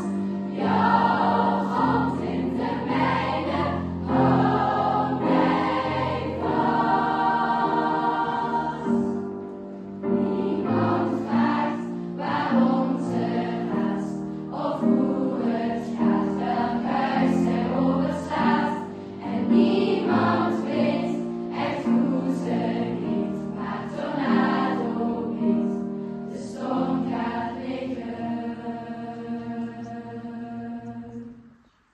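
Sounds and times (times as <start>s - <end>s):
choir singing sustained chords: 0.0s - 31.7s.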